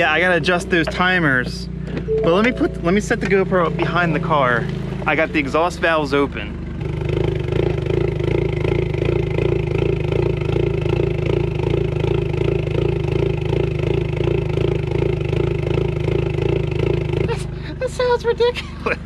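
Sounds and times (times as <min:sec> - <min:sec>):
car engine idling with lopey chop: 0:00.0 - 0:19.0.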